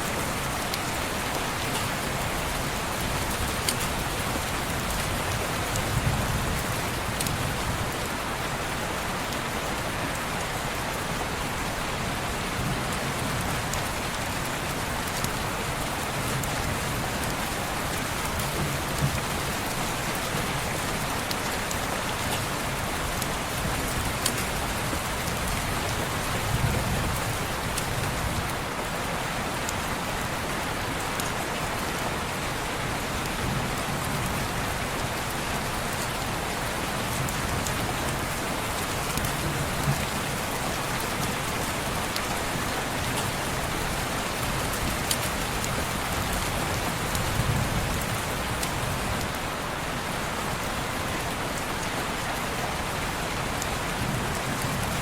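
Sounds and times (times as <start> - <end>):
heavy rain on window glass: 0.0 - 55.0.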